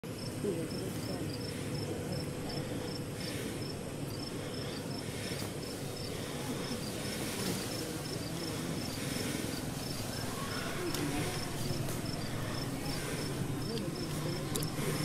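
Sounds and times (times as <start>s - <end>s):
low background rumble: 0.0s - 15.0s
cricket chirping: 0.1s - 15.0s.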